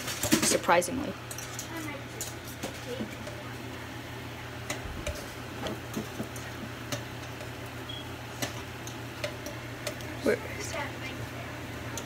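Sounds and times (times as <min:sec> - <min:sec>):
water boiling in saucepan: 0:00.0 - 0:12.0.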